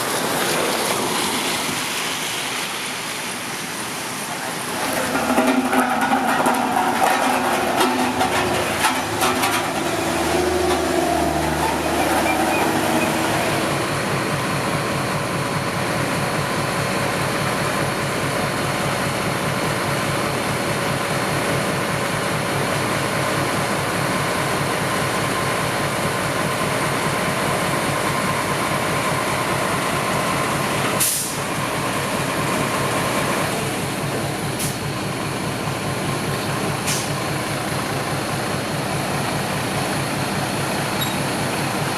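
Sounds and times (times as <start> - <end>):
diesel machinery engine running: 2.3 - 41.9.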